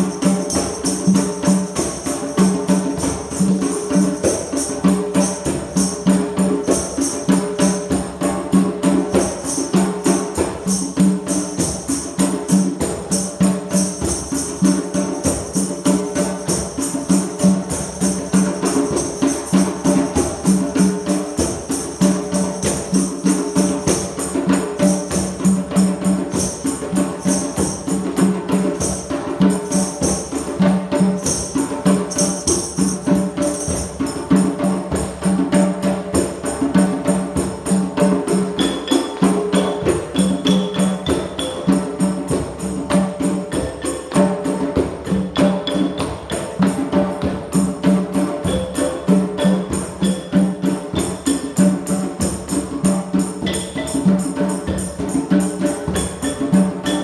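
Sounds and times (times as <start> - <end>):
hand drums playing: 0.0 - 57.0
jingling percussion: 0.0 - 57.0.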